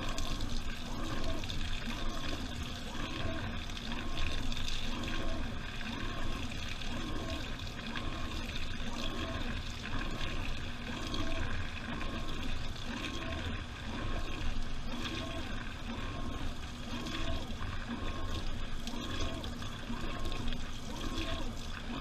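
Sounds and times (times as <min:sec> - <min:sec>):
water sloshing in washing machine: 0:00.0 - 0:22.0.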